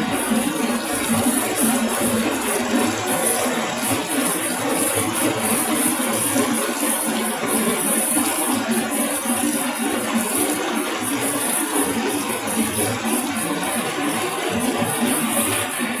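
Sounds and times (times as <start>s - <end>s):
vegetable peeling machine running: 0.0s - 16.0s.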